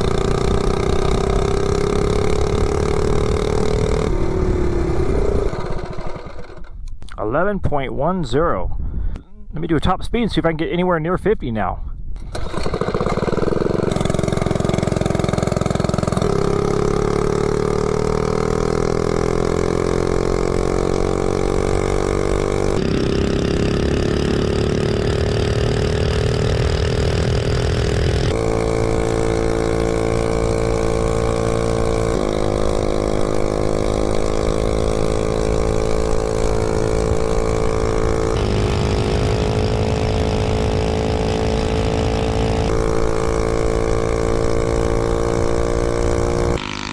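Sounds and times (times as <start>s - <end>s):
mini bike engine revving: 0.0s - 6.8s, 12.2s - 46.9s.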